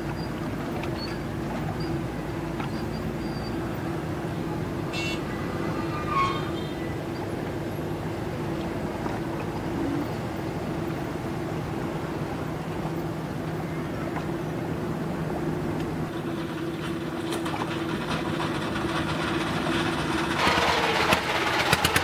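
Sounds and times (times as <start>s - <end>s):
ship engine drone: 0.0s - 22.0s.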